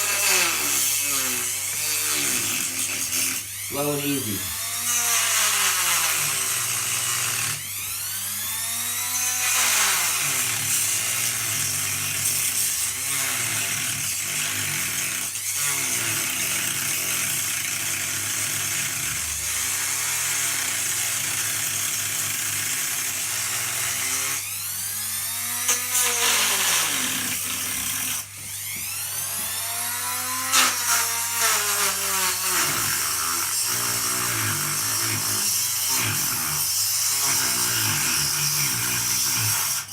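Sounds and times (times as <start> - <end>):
rotary tool cutting tiles: 0.0 - 39.9.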